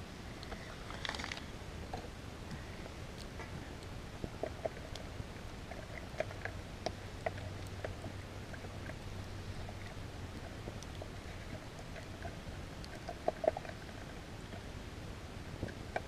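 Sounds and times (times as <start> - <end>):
campfire crackling and popping: 0.3 - 16.0.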